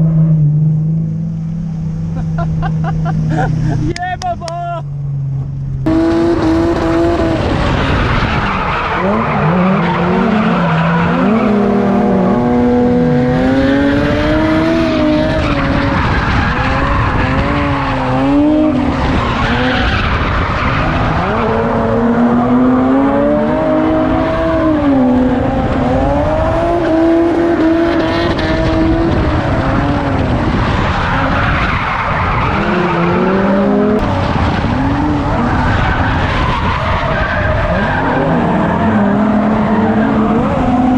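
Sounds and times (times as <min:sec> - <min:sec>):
tyres skidding: 0:00.0 - 0:40.9
car engine revving: 0:04.8 - 0:40.9.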